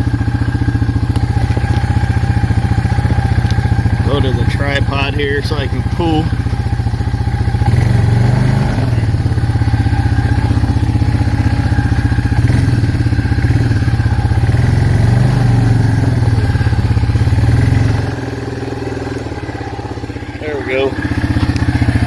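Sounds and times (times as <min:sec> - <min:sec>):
single-cylinder engine running loudly: 0:00.0 - 0:22.0.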